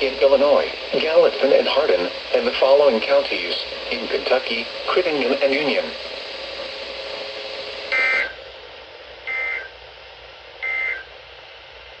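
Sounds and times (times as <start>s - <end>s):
radio hiss: 0.0s - 10.0s, 10.6s - 11.2s.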